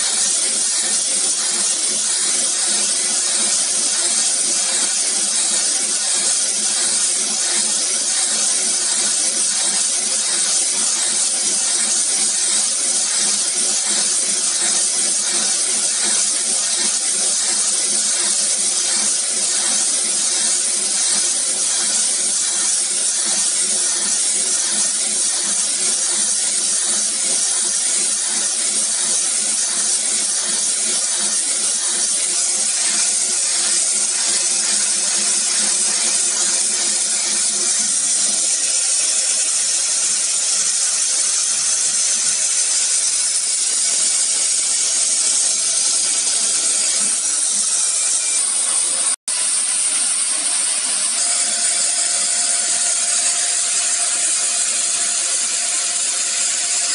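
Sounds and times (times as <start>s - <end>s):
laser cutter air hiss: 0.0s - 56.9s.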